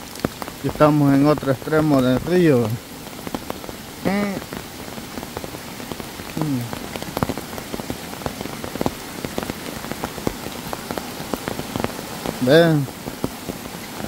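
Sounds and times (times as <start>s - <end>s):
heavy rain ticking: 0.0s - 14.0s
river rushing: 0.0s - 14.0s.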